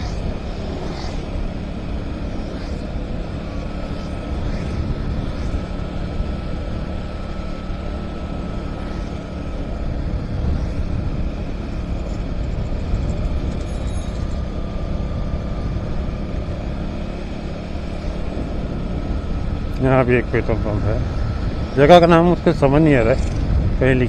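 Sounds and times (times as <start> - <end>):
wind on microphone: 0.0 - 7.3, 8.6 - 16.4, 18.1 - 24.0
motorcycle engine cruising: 0.0 - 24.0
road noise: 0.0 - 24.0.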